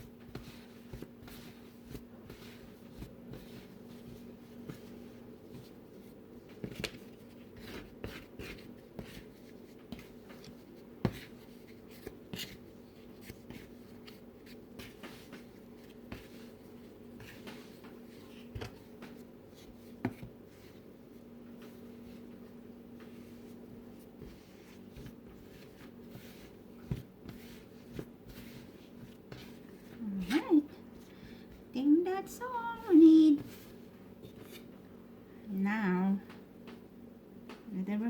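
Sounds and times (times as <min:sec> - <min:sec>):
hands kneading bread dough: 0:00.0 - 0:38.0.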